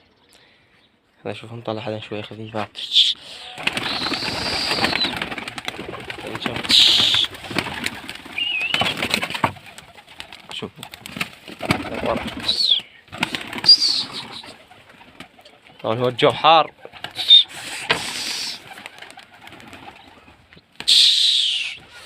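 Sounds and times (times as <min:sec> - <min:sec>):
pigeons cooing: 0:02.6 - 0:10.3, 0:10.9 - 0:22.0
wings flapping: 0:03.3 - 0:22.0.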